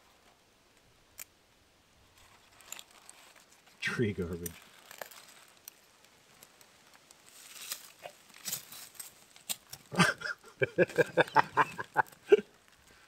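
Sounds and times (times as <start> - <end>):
burning paper crackling: 2.1 - 13.0.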